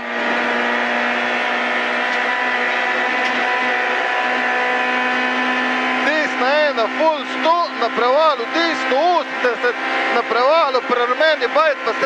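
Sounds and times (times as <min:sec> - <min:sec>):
rally car engine at full throttle: 0:00.0 - 0:12.0.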